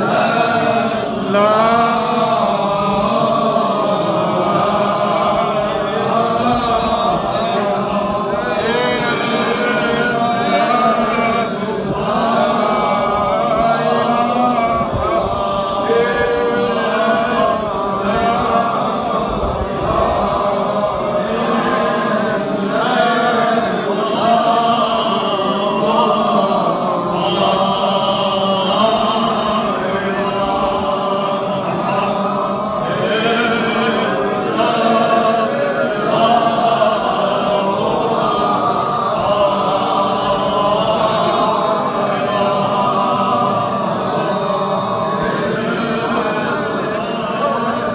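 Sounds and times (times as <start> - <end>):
men chanting in unison: 0.0 - 47.9.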